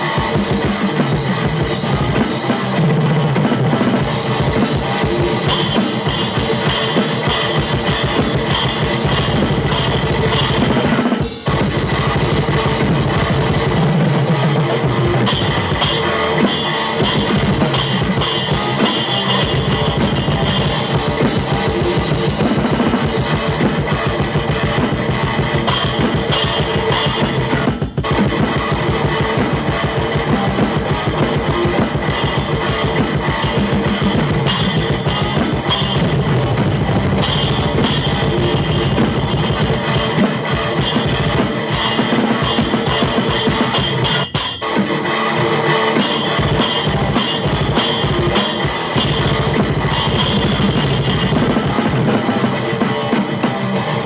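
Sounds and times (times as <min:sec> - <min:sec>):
drum kit played hard: 0:00.0 - 0:54.0
heavy metal electric guitar: 0:00.0 - 0:54.0.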